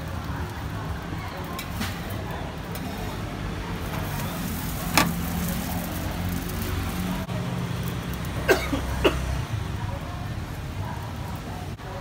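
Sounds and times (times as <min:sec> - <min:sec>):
street stall rumble: 0:00.0 - 0:12.0.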